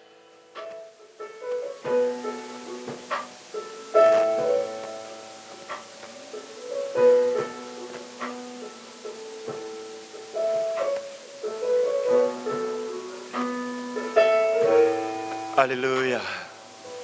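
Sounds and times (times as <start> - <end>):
keyboard playing soft chords: 0.0 - 17.0.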